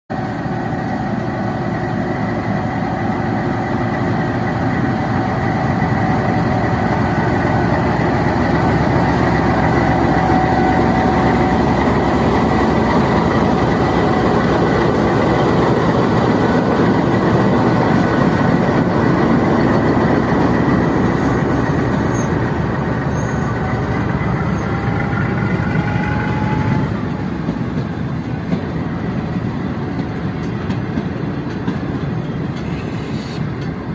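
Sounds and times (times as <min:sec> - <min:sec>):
train rumbling: 0:00.1 - 0:33.9.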